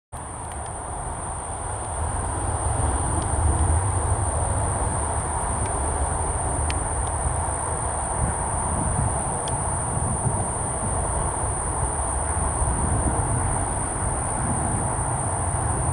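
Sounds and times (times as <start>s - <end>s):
jet engines rumbling: 0.2s - 15.9s.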